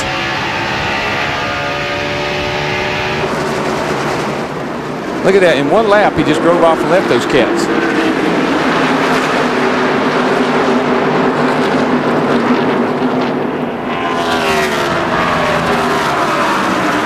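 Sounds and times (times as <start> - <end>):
race car engines droning: 0.0 - 17.0
race cars passing close by: 0.0 - 17.0.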